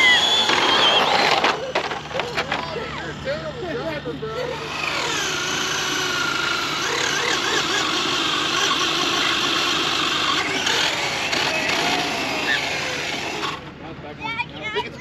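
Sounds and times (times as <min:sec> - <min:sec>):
electric motor whining: 0:00.0 - 0:13.7.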